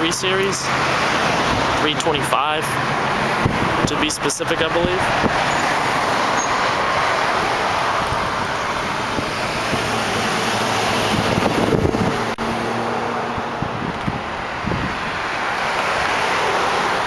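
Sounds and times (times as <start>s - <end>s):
passing road traffic: 0.0s - 17.0s.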